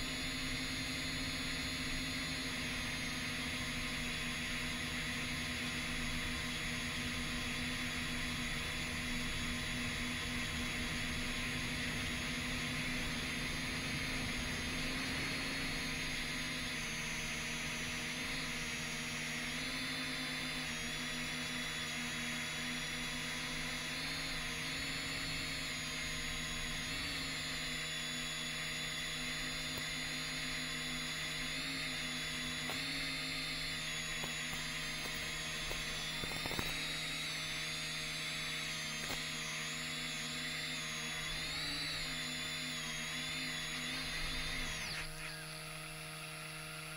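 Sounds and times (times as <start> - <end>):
drone propellers whining: 0.0 - 46.9.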